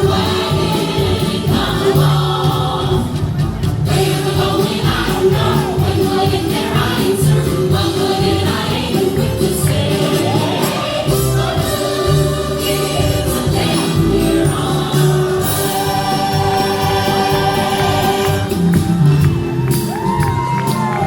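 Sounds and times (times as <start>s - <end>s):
group of voices singing: 0.0s - 19.0s.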